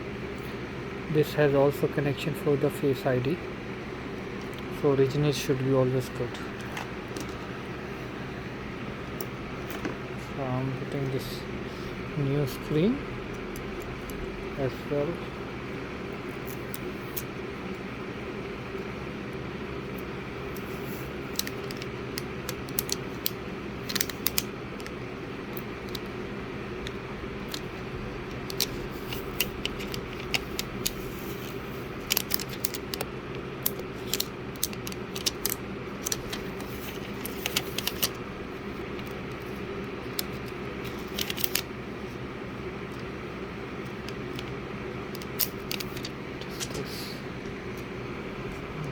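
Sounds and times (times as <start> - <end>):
steady background hum: 0.0 - 48.9.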